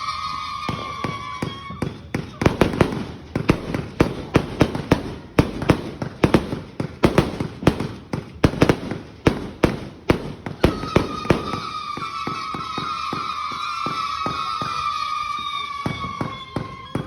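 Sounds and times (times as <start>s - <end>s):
faint firework crackles: 0.0s - 17.0s
firework cake bangs: 0.0s - 17.0s
high firework whistling: 0.0s - 17.0s.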